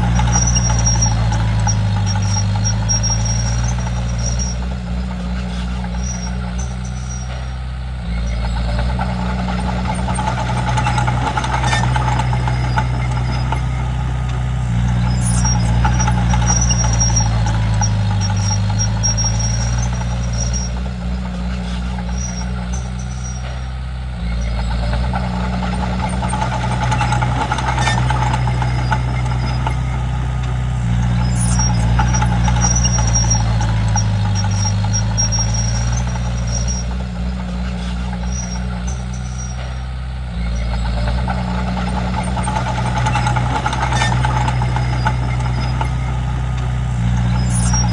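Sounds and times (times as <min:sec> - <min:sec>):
bulldozer diesel engine drone: 0:00.0 - 0:47.9.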